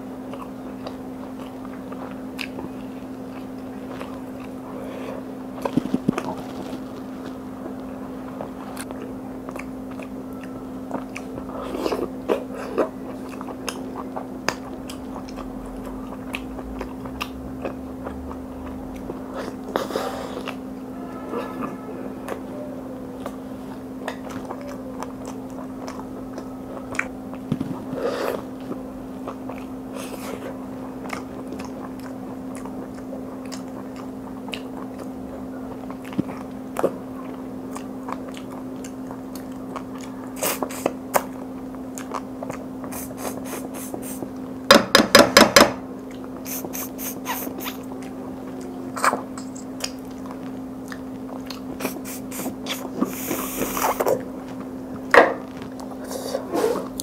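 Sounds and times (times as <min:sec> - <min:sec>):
steady low hum: 0:00.0 - 0:57.0
person chewing and lip-smacking: 0:00.2 - 0:20.7, 0:21.6 - 0:44.5, 0:46.0 - 0:56.1.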